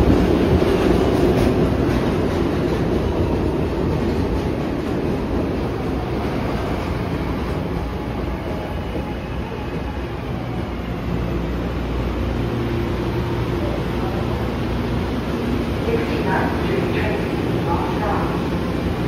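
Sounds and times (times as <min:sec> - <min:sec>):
subway train rail noise: 0:00.0 - 0:19.0.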